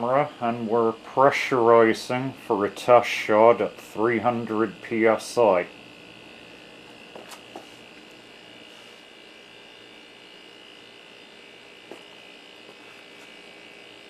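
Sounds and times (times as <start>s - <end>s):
compressor electric hum: 0.0s - 14.0s.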